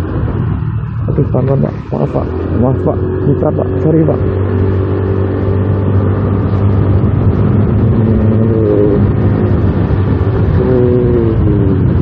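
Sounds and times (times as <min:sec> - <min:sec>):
motorcycle engine running: 0:00.0 - 0:12.0
wind and wet road noise: 0:00.0 - 0:12.0.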